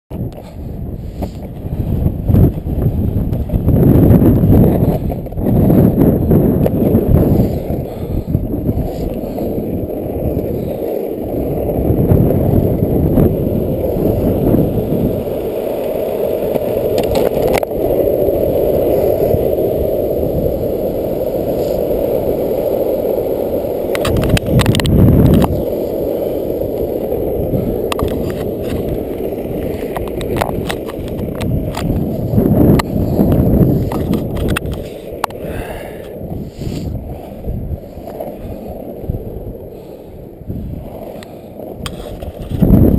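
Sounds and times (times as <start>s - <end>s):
longboard wheels rumbling on asphalt: 0.1s - 42.9s.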